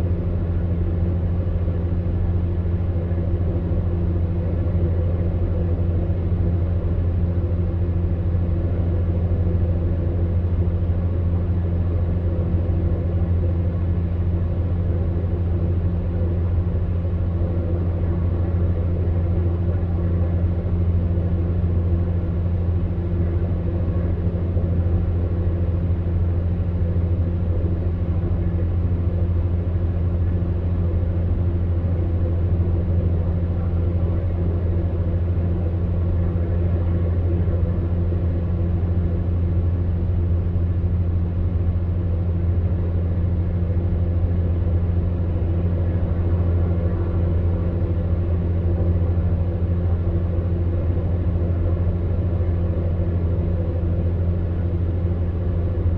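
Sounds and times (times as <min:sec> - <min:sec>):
fan heater motor hum: 0:00.0 - 0:55.9.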